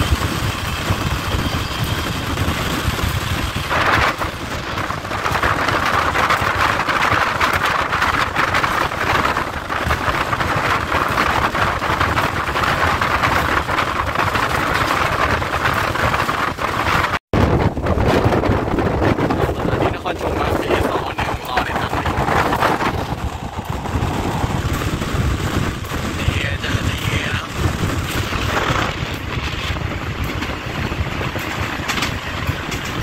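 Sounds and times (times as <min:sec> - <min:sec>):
train wheels on rails: 0:00.0 - 0:17.2, 0:18.0 - 0:33.0
wind rushing: 0:00.0 - 0:33.0.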